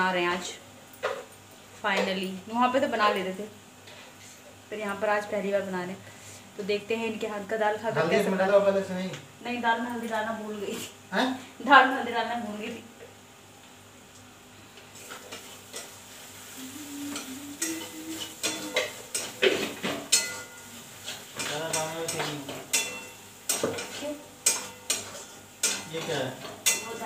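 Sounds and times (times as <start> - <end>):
light sizzle: 0.0 - 27.0.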